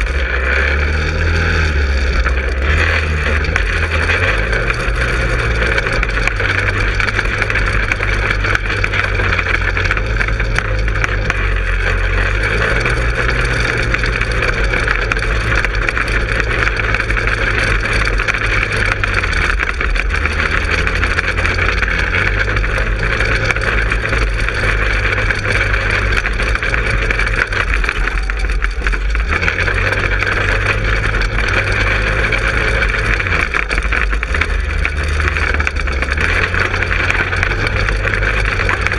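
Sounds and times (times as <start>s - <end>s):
go-kart engine running: 0.0s - 38.9s.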